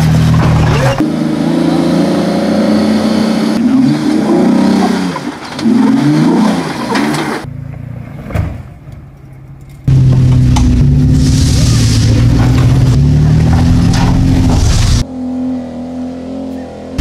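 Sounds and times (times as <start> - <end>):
engine revving: 0.0 - 7.6, 9.8 - 17.0.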